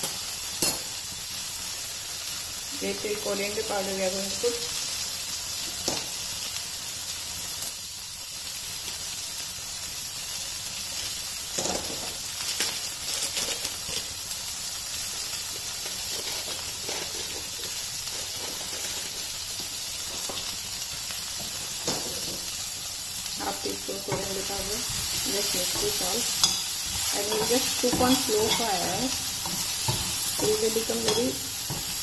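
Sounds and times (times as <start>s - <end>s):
oil sizzling in a frying pan: 0.0s - 32.0s.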